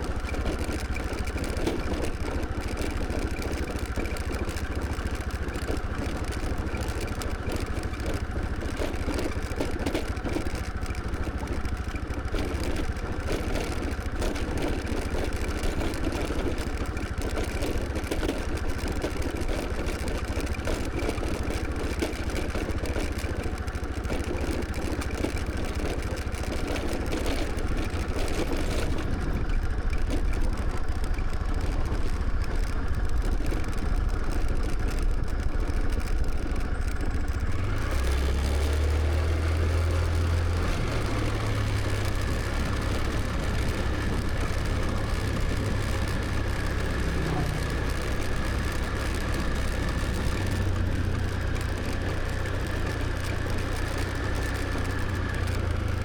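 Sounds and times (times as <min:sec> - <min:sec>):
road noise: 0:00.0 - 0:56.0
scooter engine running: 0:00.0 - 0:56.0.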